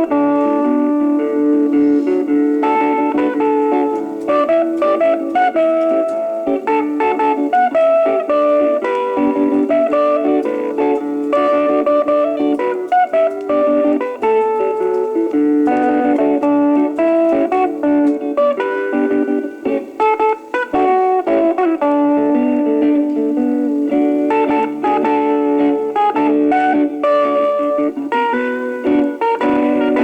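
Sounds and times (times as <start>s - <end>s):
electric guitar solo with accompaniment: 0.0s - 30.0s.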